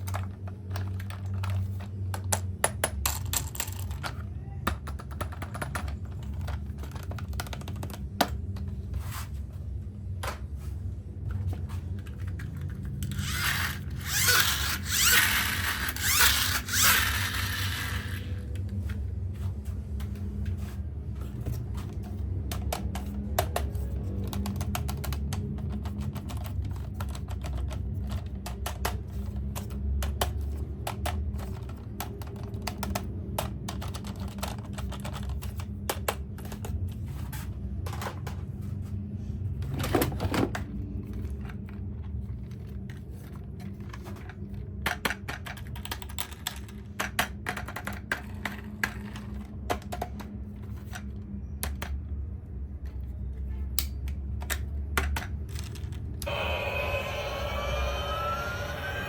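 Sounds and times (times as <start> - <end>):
plastic toys clicking and tapping: 0.0 - 8.9, 11.2 - 19.0, 20.0 - 38.5, 39.6 - 56.3.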